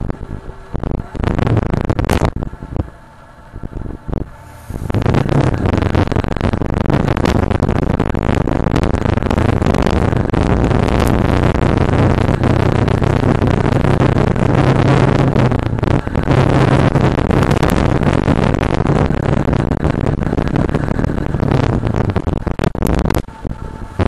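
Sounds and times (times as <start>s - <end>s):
motorcycle engine cruising: 0.0s - 24.0s
wind on microphone: 0.0s - 24.0s.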